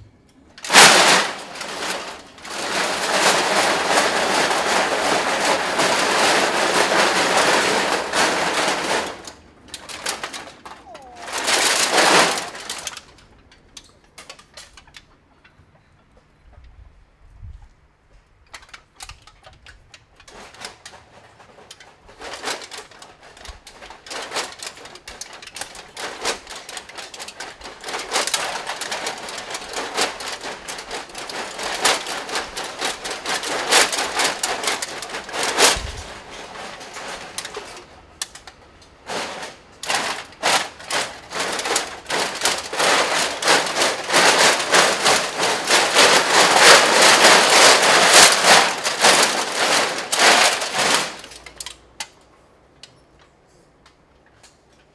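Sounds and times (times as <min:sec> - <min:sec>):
aluminium cans clattering: 0:00.6 - 0:15.2, 0:18.5 - 0:52.0.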